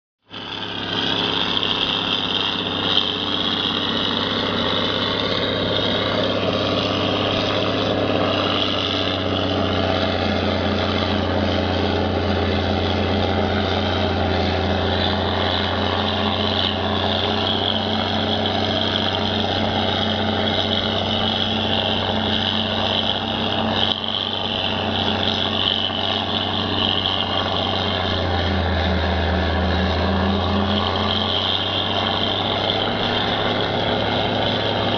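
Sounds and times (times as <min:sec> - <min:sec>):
harvester engine drone: 0:00.2 - 0:34.9
truck engine running: 0:00.2 - 0:34.9
high whine: 0:00.4 - 0:34.9.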